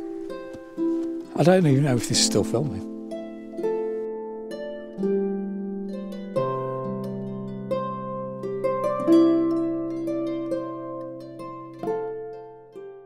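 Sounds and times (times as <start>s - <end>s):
slow plucked string melody: 0.0s - 13.0s.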